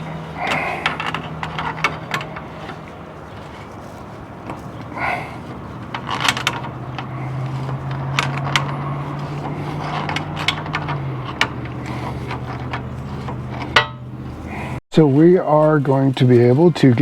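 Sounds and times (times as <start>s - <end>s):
hand tools clicking and scraping metal: 0.0s - 17.0s
steady low hum: 0.0s - 17.0s.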